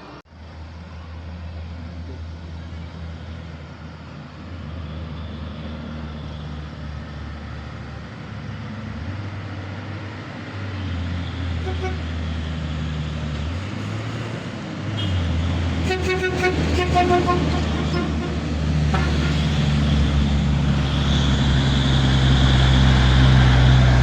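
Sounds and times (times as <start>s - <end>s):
diesel truck engine straining: 3.8s - 24.0s.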